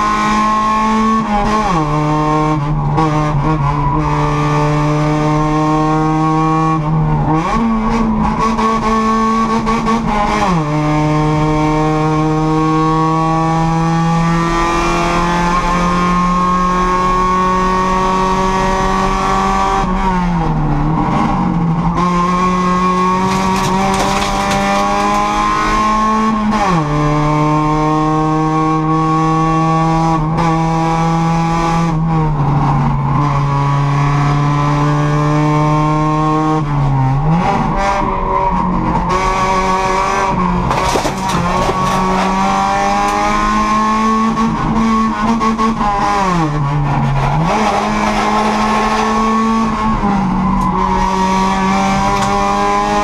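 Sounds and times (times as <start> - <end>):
race car engine at high revs: 0.0 - 23.3, 26.6 - 40.5, 42.1 - 53.0.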